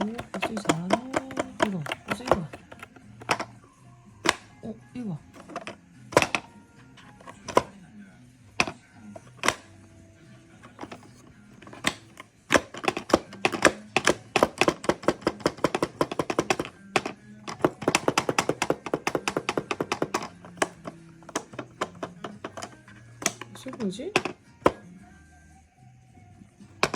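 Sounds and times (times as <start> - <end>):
plastic toy clicks and taps: 0.0 - 3.6, 4.2 - 4.5, 5.4 - 7.8, 8.6 - 9.7, 10.6 - 24.9.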